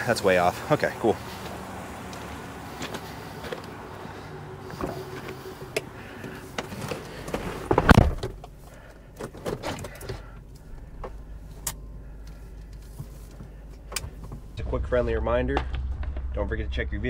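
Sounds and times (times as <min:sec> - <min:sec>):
truck engine starting and rumbling: 0:00.0 - 0:17.0.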